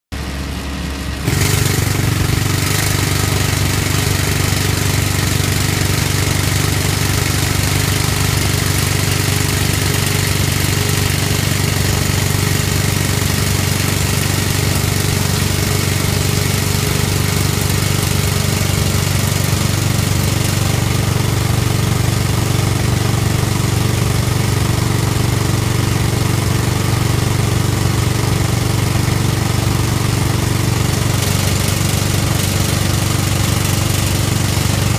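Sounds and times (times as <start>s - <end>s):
excavator engine and hydraulics: 0.1s - 34.9s
hydraulic rock drill hammering: 0.2s - 34.9s.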